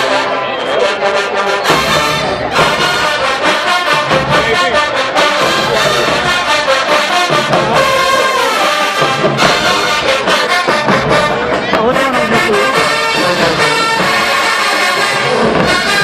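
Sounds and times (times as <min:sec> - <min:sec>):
marching band playing: 0:00.0 - 0:16.0
trombones and trumpets: 0:00.0 - 0:16.0
drums: 0:01.0 - 0:16.0.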